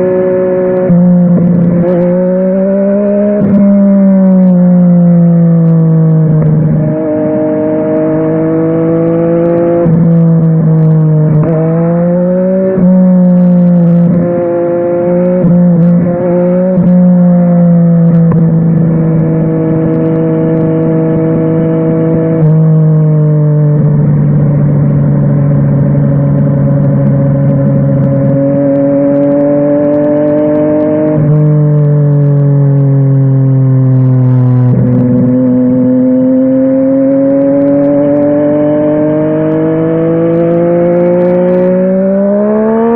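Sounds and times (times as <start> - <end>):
motorcycle engine exhaust note: 0.0 - 42.9.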